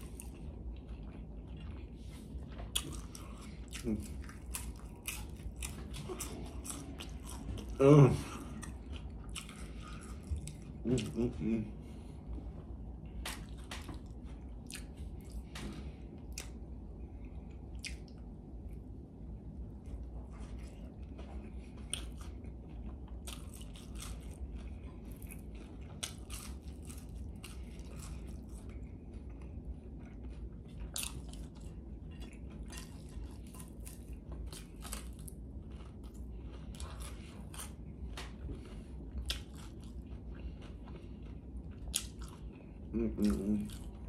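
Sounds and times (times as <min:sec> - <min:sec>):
chewing and biting food: 0:00.0 - 0:44.0
steady low hum: 0:00.0 - 0:44.0.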